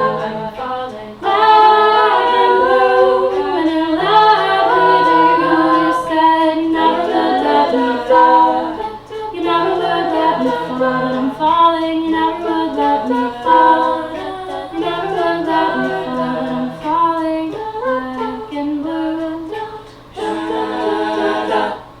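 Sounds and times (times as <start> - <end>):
vocal group singing in harmony: 0.0 - 22.0.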